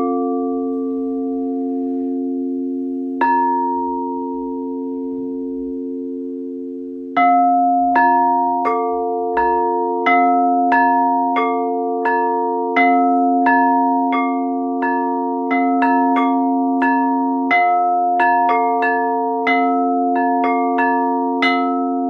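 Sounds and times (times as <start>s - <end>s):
steel tongue drum melody: 0.0s - 22.0s.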